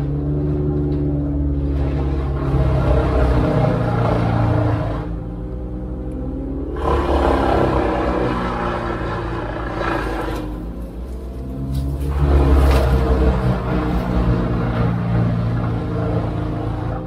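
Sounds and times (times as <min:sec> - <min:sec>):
excavator diesel engine under load: 0:00.0 - 0:17.0.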